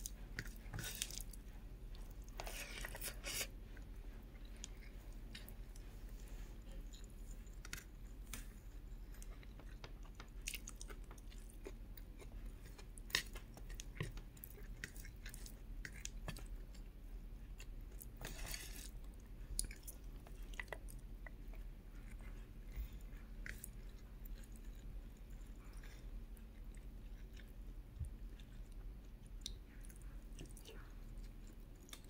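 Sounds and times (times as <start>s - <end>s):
close chewing: 0.0s - 32.0s.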